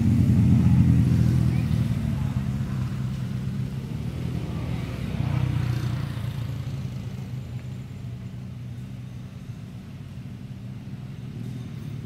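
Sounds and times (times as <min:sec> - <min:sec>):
passing vehicle engine rumble: 0:00.0 - 0:12.0.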